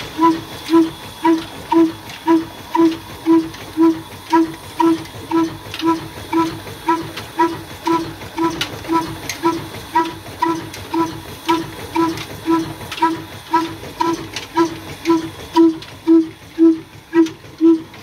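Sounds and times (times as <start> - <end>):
diesel engine exhaust beating: 0.0 - 18.0.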